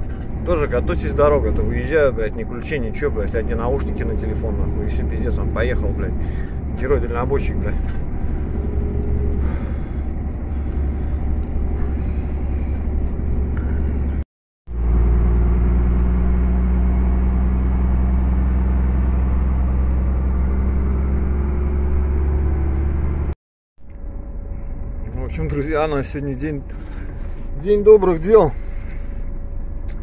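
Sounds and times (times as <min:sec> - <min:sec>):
diesel truck engine droning: 0:00.0 - 0:30.0.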